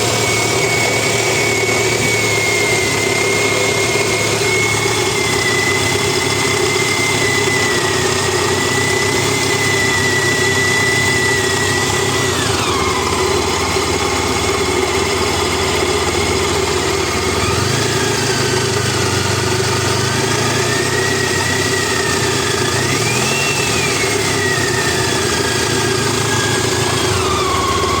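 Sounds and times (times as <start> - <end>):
motorcycle engine running with rattle: 0.0 - 28.0.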